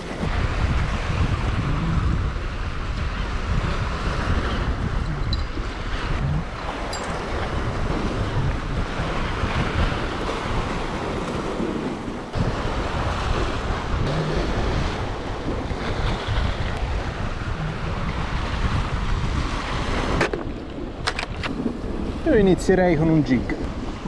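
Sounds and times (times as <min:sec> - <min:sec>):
waves washing against rocks: 0:00.0 - 0:24.0
wind rumbling on the microphone: 0:00.0 - 0:24.0.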